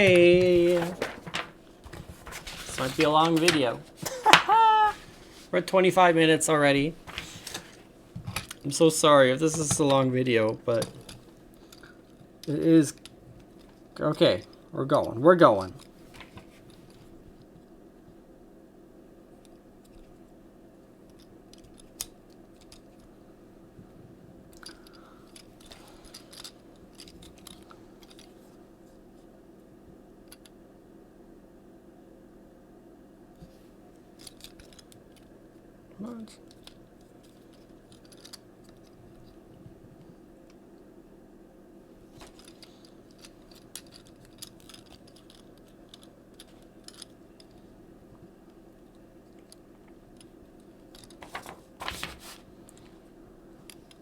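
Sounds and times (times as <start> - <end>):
steady low hum: 0.0 - 51.8.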